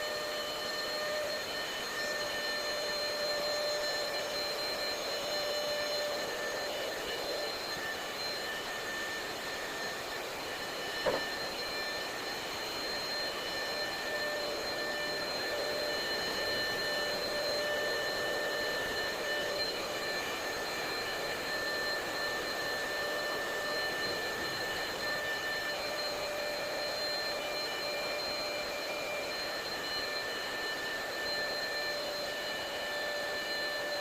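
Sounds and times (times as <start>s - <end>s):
electric air pump whining: 0.0s - 34.0s.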